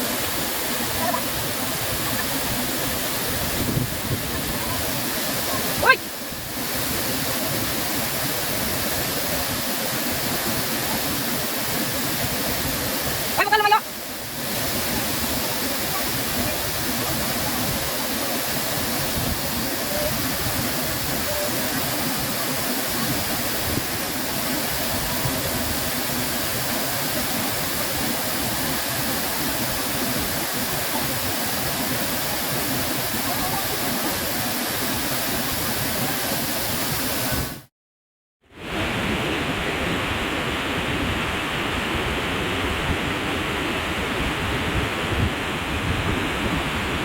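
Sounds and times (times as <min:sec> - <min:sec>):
waterfall rushing: 0:00.0 - 0:37.7.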